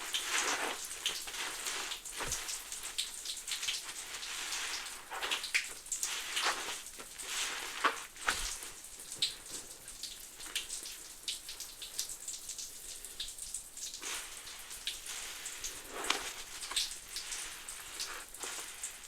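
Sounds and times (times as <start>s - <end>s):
wet squishes: 0.0s - 12.7s, 13.8s - 19.0s
soap suds crackling and popping: 0.0s - 19.0s.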